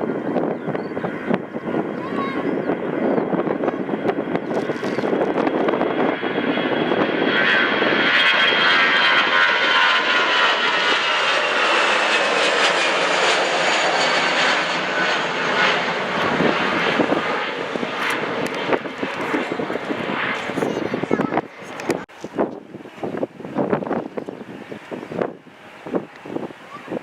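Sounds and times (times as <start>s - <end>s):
jet airliner passing: 0.0s - 27.0s.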